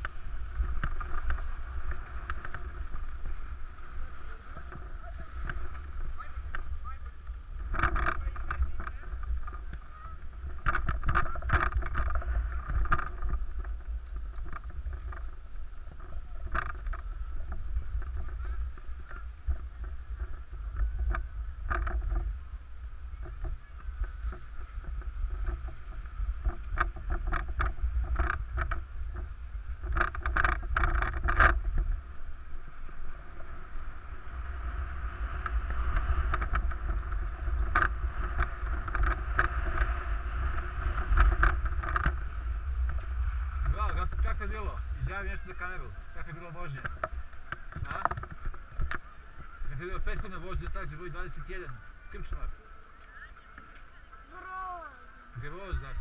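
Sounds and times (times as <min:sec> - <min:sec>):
skis scraping over snow: 0:00.0 - 0:56.0
wind buffeting microphone: 0:00.0 - 0:56.0.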